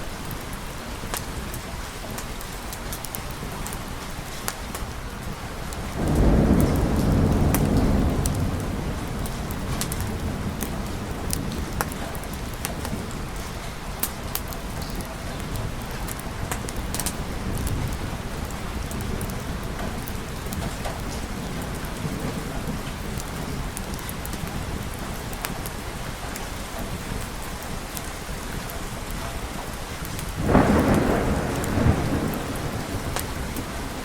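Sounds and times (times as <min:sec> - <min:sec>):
heavy rain falling: 0:00.0 - 0:34.0
thunderclap rumbling: 0:05.8 - 0:29.2, 0:29.9 - 0:34.0.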